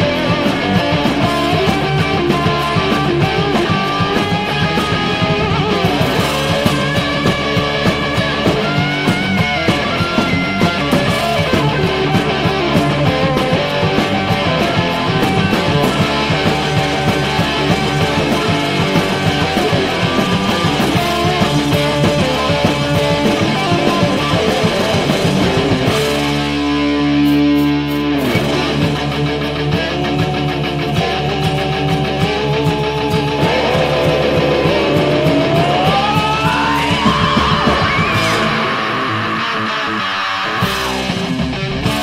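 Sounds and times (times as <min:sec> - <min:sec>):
rock band music: 0:00.0 - 0:42.0.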